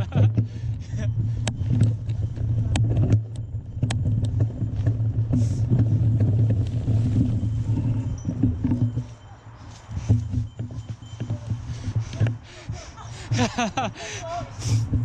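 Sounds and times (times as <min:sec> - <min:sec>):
bike tyres rumbling on trail: 0:00.0 - 0:15.0.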